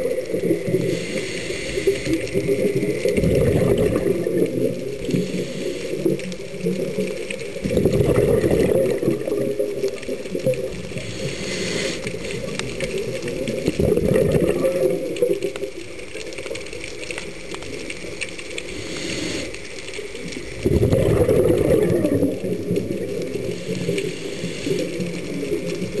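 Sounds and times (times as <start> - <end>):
exhaled bubbles gurgling underwater: 0.0 - 26.0.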